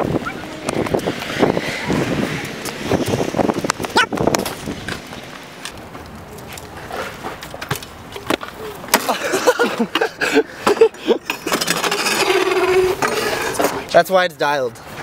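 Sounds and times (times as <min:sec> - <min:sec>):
bike tyres and frame clattering: 0:00.0 - 0:14.1.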